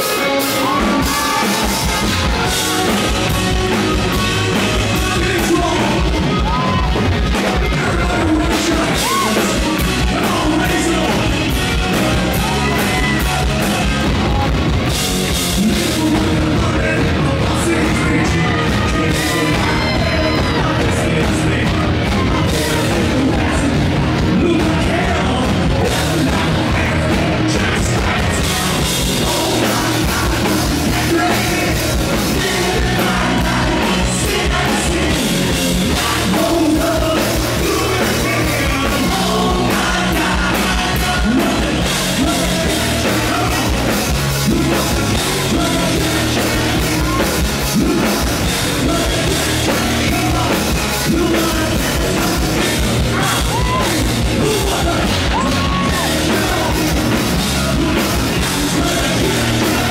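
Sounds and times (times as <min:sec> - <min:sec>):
bass guitar: 0:00.0 - 0:59.9
drum kit: 0:00.0 - 0:59.9
electric guitar: 0:00.0 - 0:59.9
man singing into a microphone: 0:03.8 - 0:13.6, 0:15.4 - 0:59.9.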